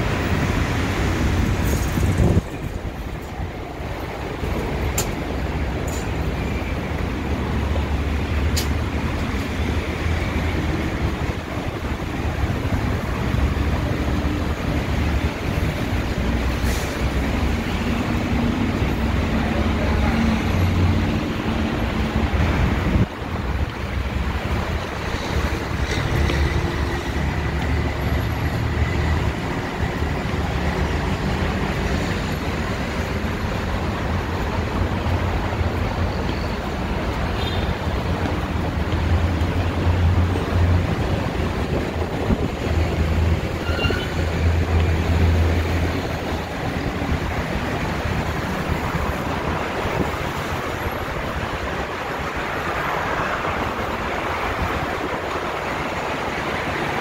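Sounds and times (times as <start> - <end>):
busy road traffic: 0.0 - 57.0
engine rumble of passing vehicles: 0.0 - 57.0.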